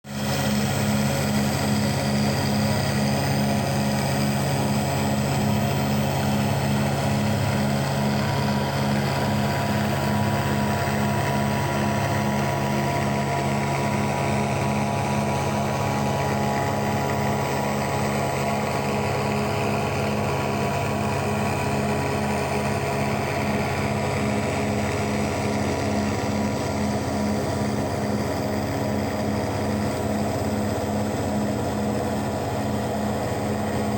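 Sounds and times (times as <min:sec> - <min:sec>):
router machine whine and hum: 0:00.1 - 0:33.9.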